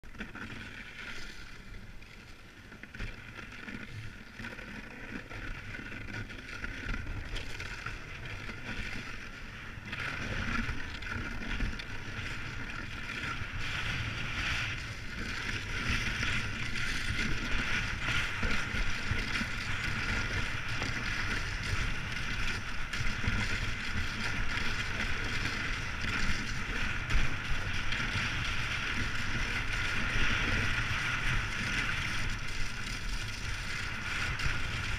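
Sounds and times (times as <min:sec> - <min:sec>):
wind rumbling on microphone: 0:00.0 - 0:34.9.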